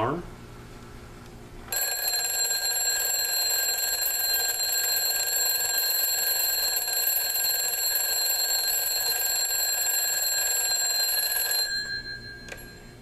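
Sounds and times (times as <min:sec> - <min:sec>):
alarm clock bells ringing: 0:01.7 - 0:13.0.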